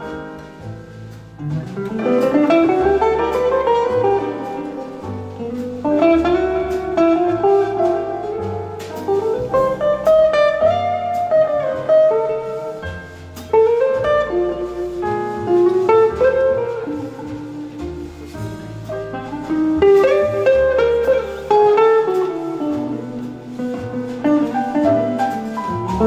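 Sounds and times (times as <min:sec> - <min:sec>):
electric jazz guitar melody: 0:00.0 - 0:26.0
piano: 0:00.0 - 0:26.0
walking double bass: 0:00.0 - 0:26.0.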